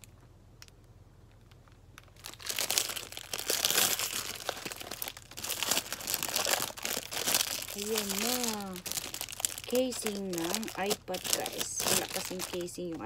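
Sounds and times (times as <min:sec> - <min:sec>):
plastic sleeve crinkling: 0:01.3 - 0:13.0.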